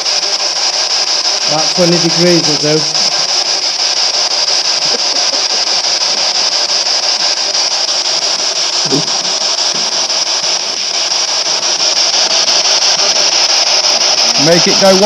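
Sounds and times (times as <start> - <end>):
radio static hissing: 0.0 - 15.0.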